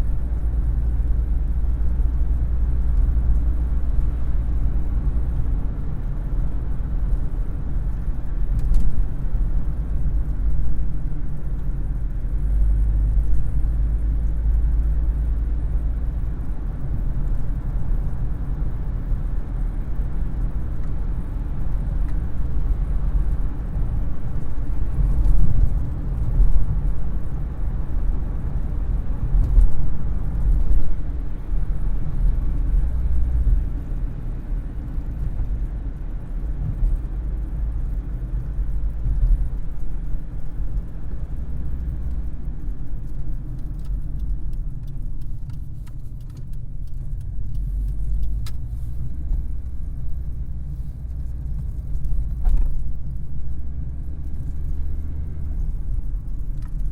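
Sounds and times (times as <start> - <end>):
car engine rumble inside cabin: 0.0 - 56.9.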